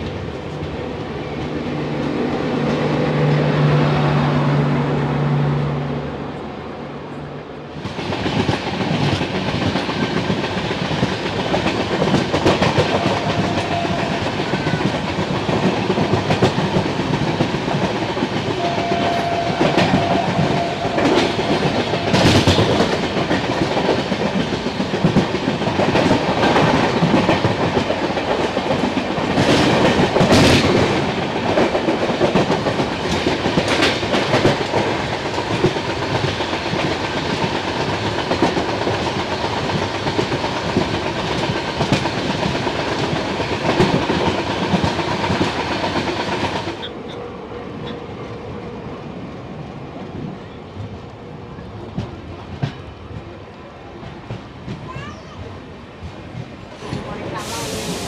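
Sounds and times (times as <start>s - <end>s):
clickety-clack over rail joints: 0.0s - 3.6s, 7.7s - 48.8s, 49.4s - 58.0s
train wheels rushing on rails: 0.0s - 58.0s.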